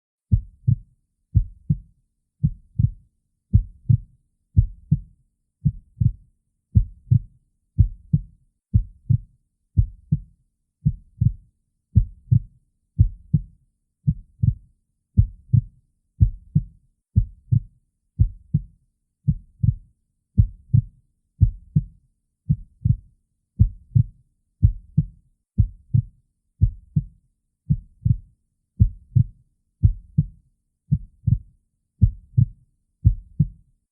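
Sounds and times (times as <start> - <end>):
heartbeat through stethoscope: 0.3 - 0.8, 1.4 - 6.2, 6.8 - 11.4, 12.0 - 13.5, 14.1 - 14.6, 15.2 - 18.7, 19.3 - 19.8, 20.4 - 21.9, 22.5 - 23.0, 23.6 - 27.1, 27.7 - 33.6.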